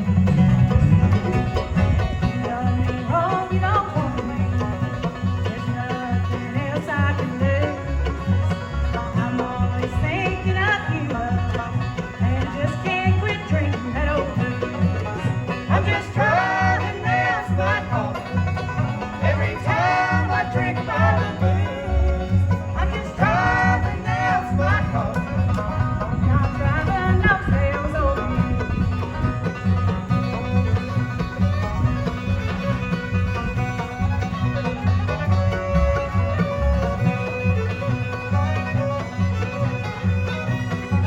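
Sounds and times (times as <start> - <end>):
banjo rolls: 0.0 - 41.0
bluegrass band playing: 0.0 - 41.0
sliding lead line: 0.0 - 41.0.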